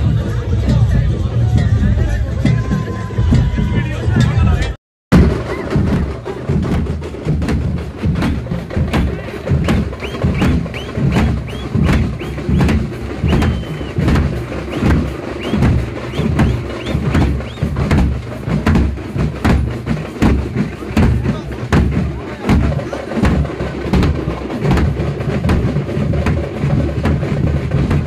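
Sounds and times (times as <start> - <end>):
bass drums booming: 1.8 - 28.0.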